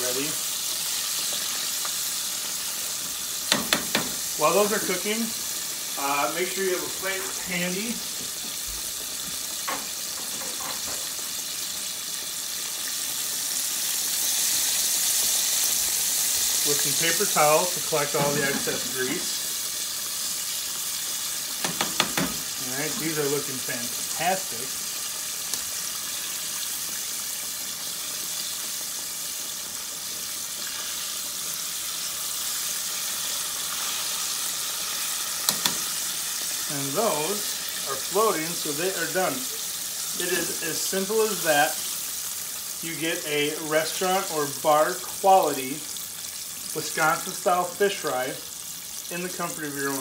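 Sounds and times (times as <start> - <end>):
fish deep-frying in oil: 0.0 - 50.0.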